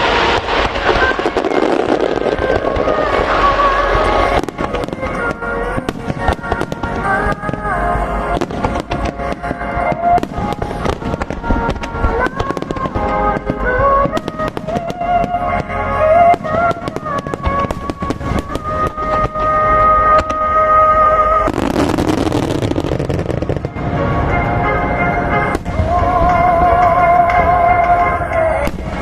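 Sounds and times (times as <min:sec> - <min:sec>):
fireworks bursting and crackling: 0:00.0 - 0:29.0
song over loudspeakers: 0:00.0 - 0:29.0.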